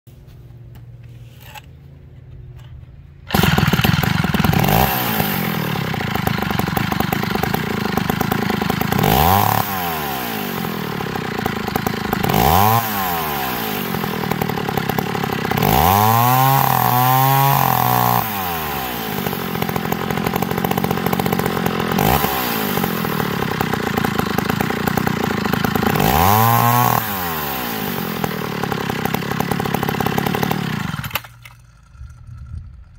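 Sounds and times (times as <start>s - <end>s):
chainsaw starting and idling: 1.2s - 1.7s, 3.2s - 32.9s
chainsaw revving: 3.3s - 32.9s.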